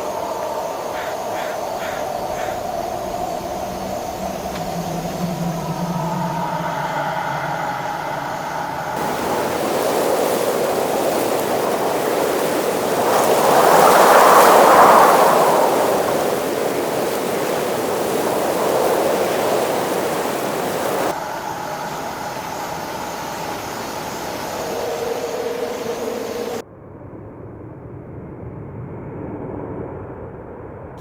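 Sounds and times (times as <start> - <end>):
loud even rushing noise: 0.0 - 26.6.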